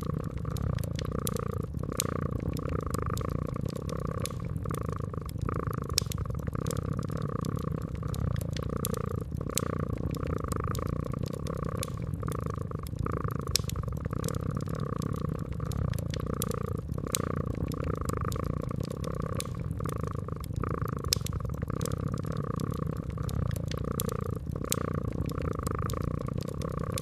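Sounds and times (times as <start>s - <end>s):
cat purring: 0.0s - 27.0s
wood fire crackling: 0.0s - 27.0s.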